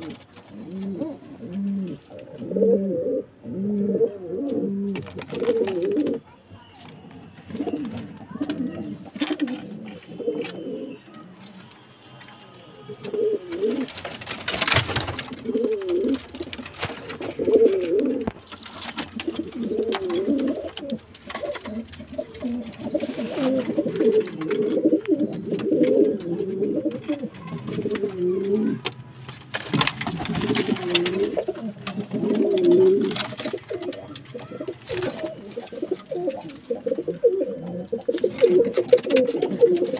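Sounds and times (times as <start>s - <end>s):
pigeons cooing: 0.0s - 11.8s, 12.9s - 28.9s, 29.7s - 39.9s.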